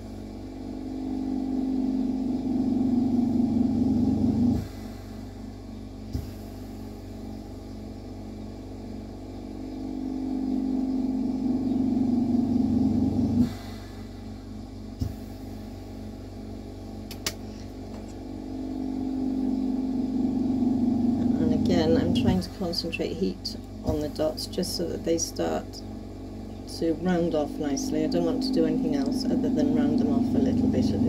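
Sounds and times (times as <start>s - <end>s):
low drone: 0.0s - 31.0s
torch setup mechanical hum: 0.0s - 31.0s.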